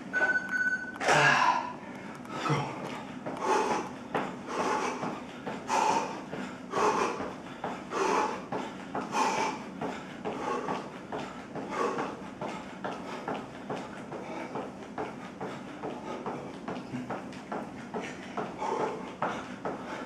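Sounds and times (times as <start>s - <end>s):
man breathing heavily: 1.0s - 20.0s.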